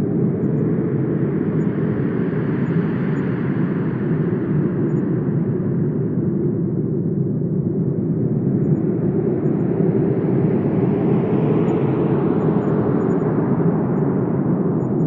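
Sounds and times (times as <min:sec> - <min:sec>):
wind blowing with deep rumble: 0:00.0 - 0:15.0.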